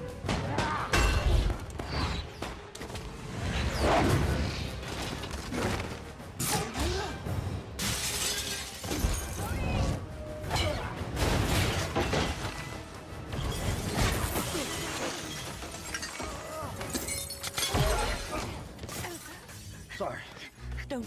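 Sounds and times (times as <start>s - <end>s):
film score music: 0.0s - 21.0s.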